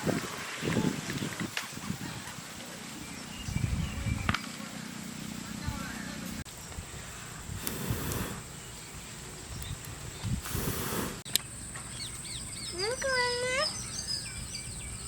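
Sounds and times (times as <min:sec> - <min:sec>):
small birds chirping: 0:00.6 - 0:15.0.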